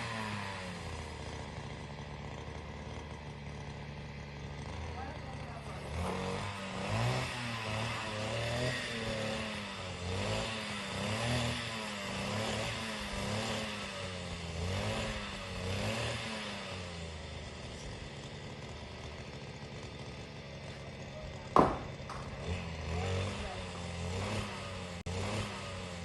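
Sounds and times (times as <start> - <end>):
motor engine revving: 0.0 - 26.0.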